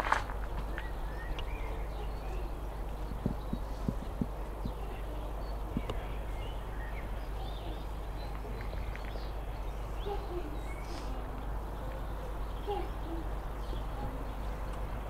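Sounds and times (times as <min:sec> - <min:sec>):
low outdoor background noise: 0:00.0 - 0:15.0
small birds chirping: 0:00.4 - 0:15.0.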